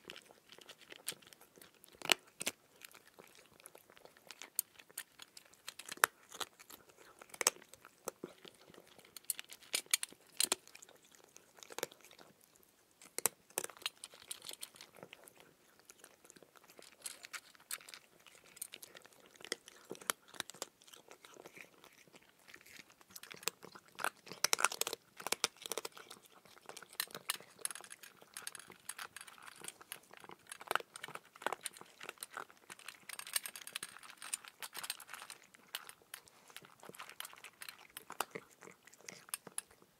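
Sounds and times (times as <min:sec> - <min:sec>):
cat crunching dry kibble: 0:00.0 - 0:39.9.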